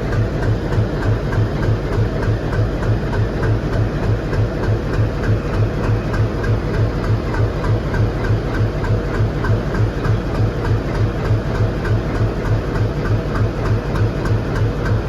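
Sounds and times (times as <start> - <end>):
diesel locomotive engine idling: 0.0 - 15.0.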